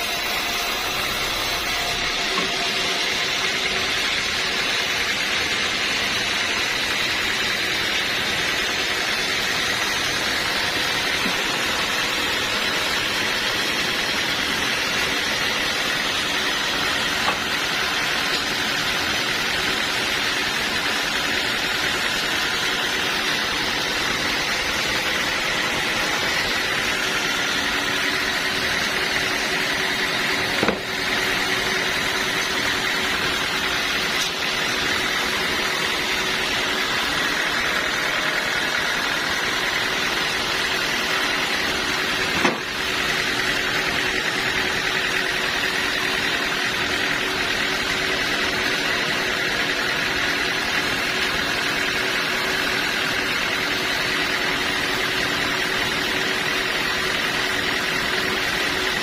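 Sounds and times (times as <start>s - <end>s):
high whine: 0.0s - 50.2s
sawmill machinery running: 0.0s - 59.0s.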